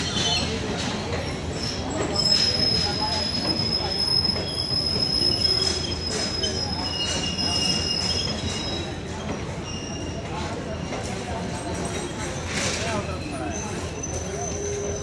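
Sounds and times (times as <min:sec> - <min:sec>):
low rumble of running train: 0:00.0 - 0:15.0
train wheels squealing on rails: 0:00.0 - 0:15.0.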